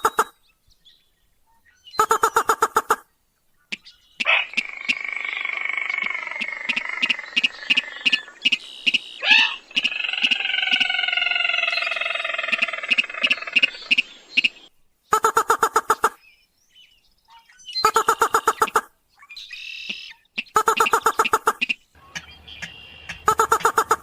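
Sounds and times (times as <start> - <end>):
wavering bird calls: 0.0 - 0.5, 1.5 - 16.3, 17.3 - 24.0.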